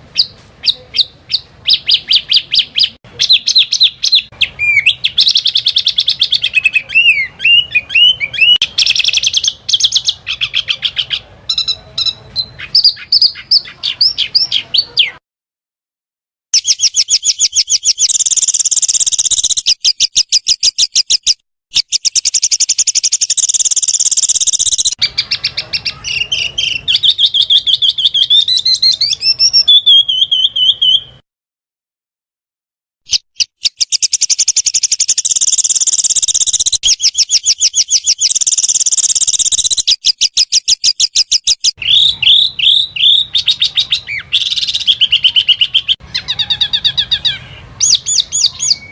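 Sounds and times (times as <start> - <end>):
songbirds trilling and chirping: 0.0 - 15.2, 16.6 - 31.2, 33.1 - 48.9.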